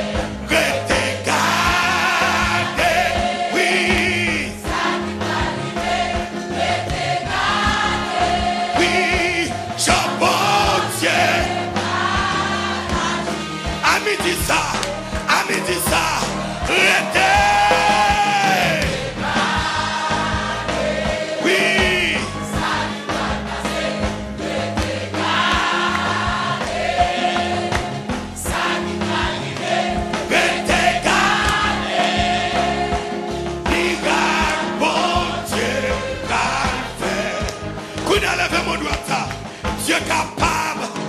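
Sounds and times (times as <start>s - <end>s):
choir singing with instruments: 0.0s - 41.0s.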